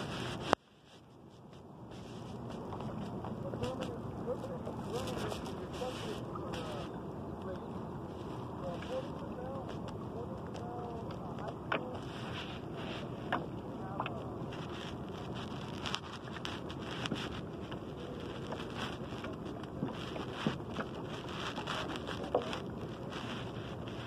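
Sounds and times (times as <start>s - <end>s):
wind noise on microphone: 0.0s - 24.0s.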